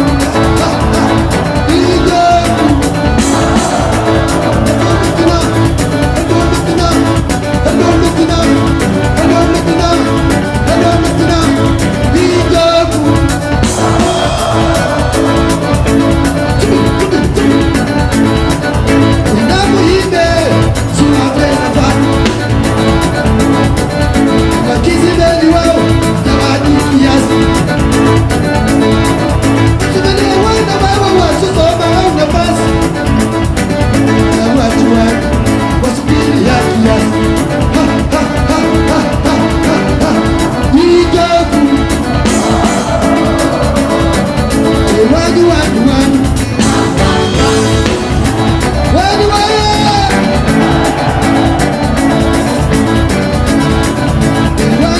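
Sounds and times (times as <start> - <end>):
live band music: 0.0 - 54.9
person singing: 0.0 - 54.9.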